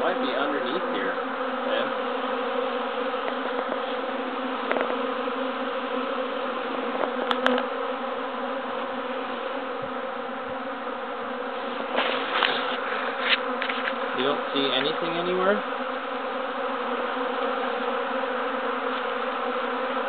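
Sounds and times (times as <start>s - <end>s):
honeybee swarm buzzing: 0.0s - 20.0s.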